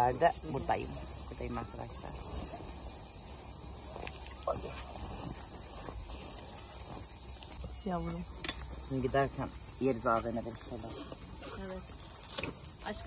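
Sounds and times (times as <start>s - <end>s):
cicadas singing: 0.0s - 13.0s.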